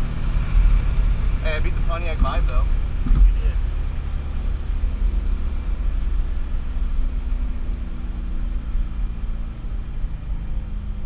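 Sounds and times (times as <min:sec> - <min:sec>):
car engine running: 0:00.0 - 0:11.0
low rumble: 0:00.0 - 0:11.0.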